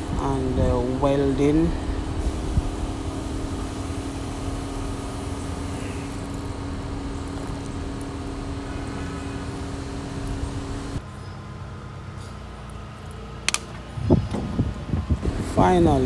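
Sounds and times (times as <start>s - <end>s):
machine hum with hiss: 0.0s - 12.9s.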